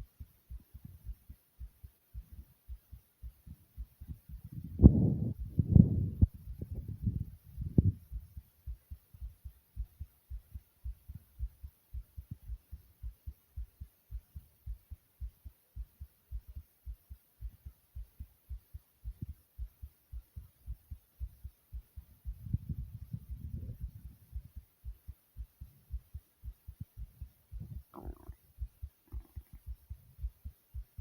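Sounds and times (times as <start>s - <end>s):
fast heartbeat thumps: 0.0s - 31.0s.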